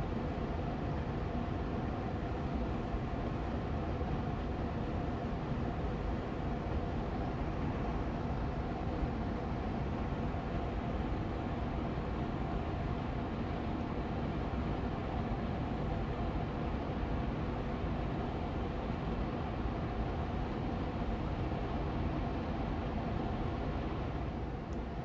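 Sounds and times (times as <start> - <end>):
air purifier fan whooshing hum: 0.0 - 25.0.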